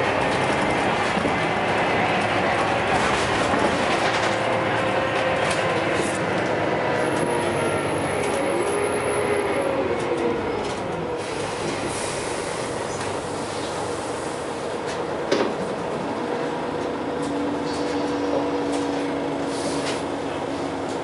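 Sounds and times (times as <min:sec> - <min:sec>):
bus diesel engine running hard: 0:00.0 - 0:21.0.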